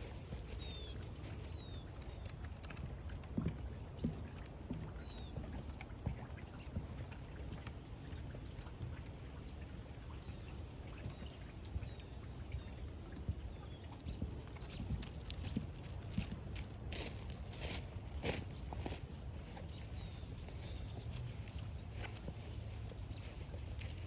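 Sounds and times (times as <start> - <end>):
drips and ticks: 0.0 - 24.0.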